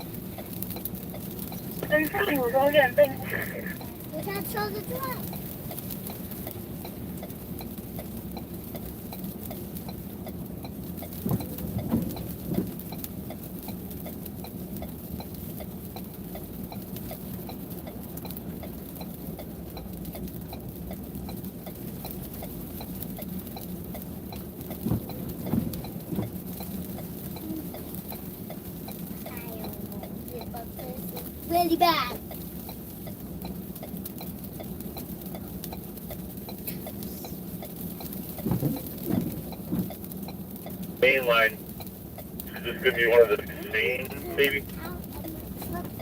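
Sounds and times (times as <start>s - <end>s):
even repeated ticking: 0.0s - 46.0s
vehicle hum: 0.0s - 46.0s.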